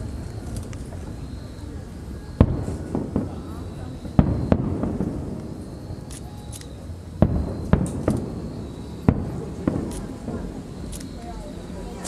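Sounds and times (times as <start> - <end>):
faint fireworks crackling: 0.0 - 12.0
fireworks booming: 0.0 - 12.0.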